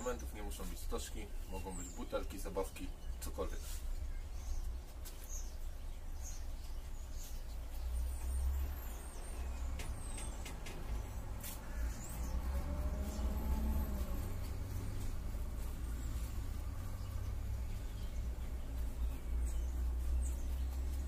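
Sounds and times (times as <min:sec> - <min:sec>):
distant street traffic rumble: 0:00.0 - 0:21.0.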